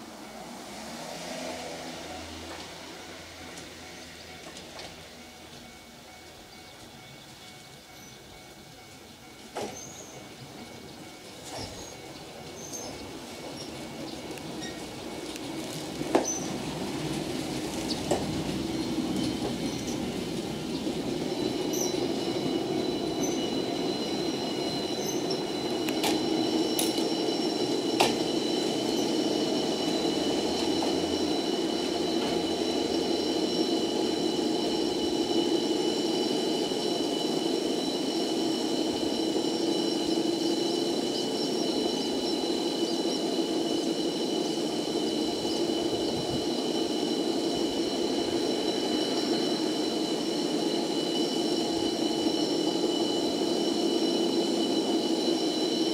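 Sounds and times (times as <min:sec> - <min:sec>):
high-pitched squeals: 0:07.9 - 0:55.9.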